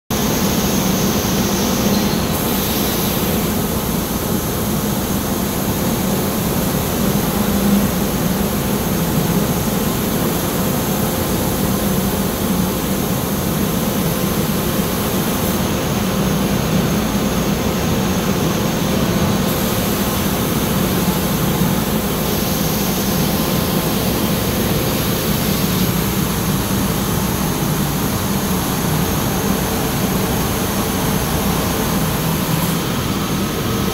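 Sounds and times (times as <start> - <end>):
laser cutter rushing noise: 0.2 - 33.9.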